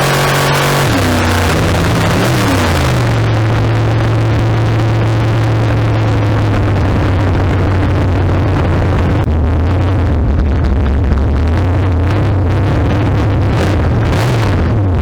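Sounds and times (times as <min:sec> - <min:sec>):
loud car engine running: 0:00.0 - 0:15.0.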